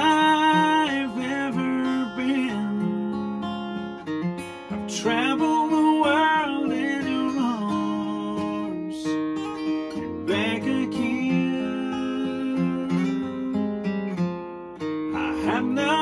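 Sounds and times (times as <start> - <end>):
man singing: 0.0 - 3.3, 4.7 - 13.9, 15.0 - 16.0
acoustic guitar strumming: 0.0 - 16.0.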